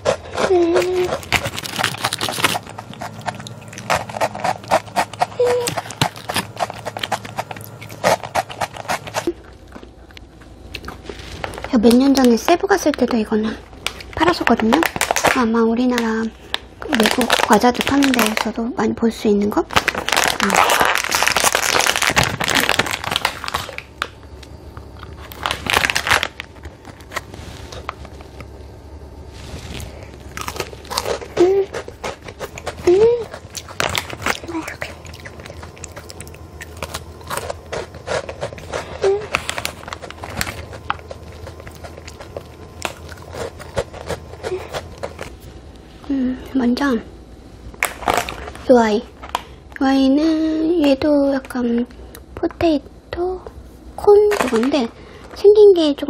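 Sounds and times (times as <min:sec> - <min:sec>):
crisp snack crunching: 0:00.0 - 0:18.6, 0:19.6 - 0:28.6, 0:29.3 - 0:45.6, 0:47.7 - 0:49.8, 0:54.2 - 0:55.4
plastic wrappers crinkling: 0:00.0 - 0:18.6, 0:19.6 - 0:28.5, 0:29.3 - 0:45.9, 0:47.7 - 0:49.8, 0:54.1 - 0:55.5.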